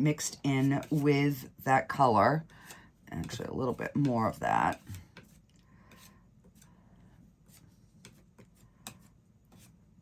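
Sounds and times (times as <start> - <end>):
paint mixing taps and scraping: 0.0 - 10.0.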